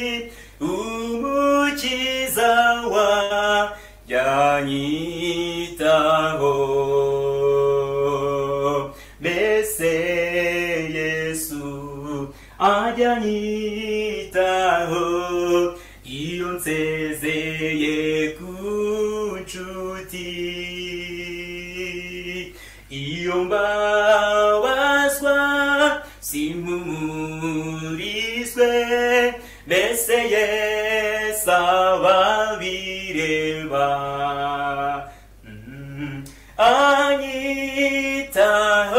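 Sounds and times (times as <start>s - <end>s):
man singing unaccompanied: 0.0s - 38.9s.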